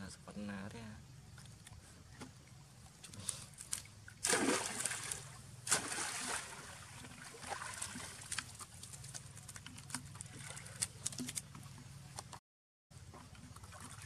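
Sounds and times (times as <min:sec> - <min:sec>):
light water splashing: 0:01.2 - 0:12.4, 0:13.0 - 0:14.0.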